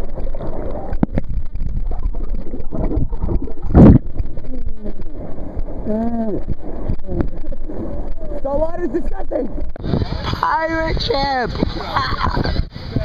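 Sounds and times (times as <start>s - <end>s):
sea water sloshing: 0.0s - 12.0s
wind rumbling on microphone: 0.0s - 13.0s.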